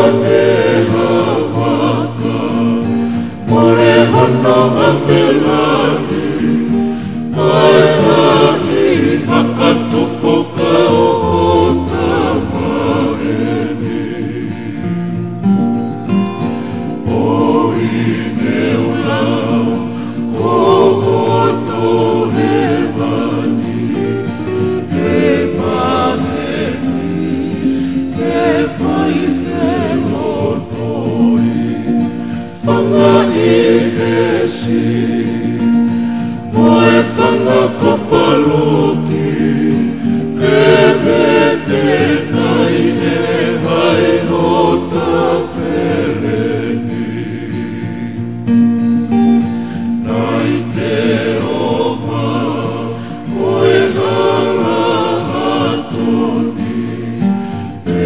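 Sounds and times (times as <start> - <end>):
group singing in harmony: 0.0 - 58.0.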